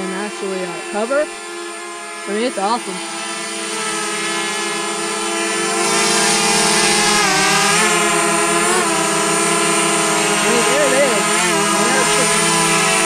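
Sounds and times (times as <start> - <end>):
drone propellers buzzing: 0.0 - 13.0.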